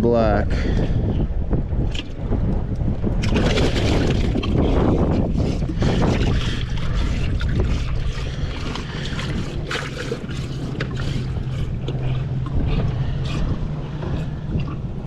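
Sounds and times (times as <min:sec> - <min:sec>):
outboard motor drone: 0:00.0 - 0:15.0
water noise: 0:00.0 - 0:15.0
wind on microphone: 0:00.0 - 0:15.0.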